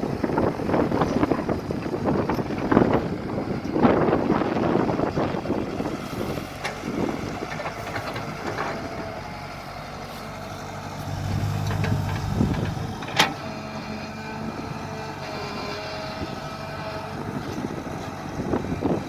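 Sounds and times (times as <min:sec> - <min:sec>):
mini excavator engine running: 0:00.0 - 0:19.0.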